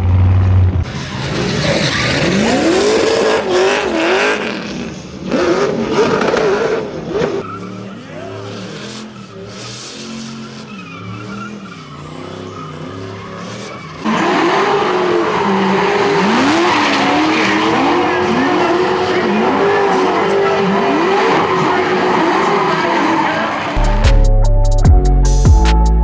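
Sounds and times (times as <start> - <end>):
tires screeching: 0.0 - 24.1
car engine revving: 0.0 - 24.3.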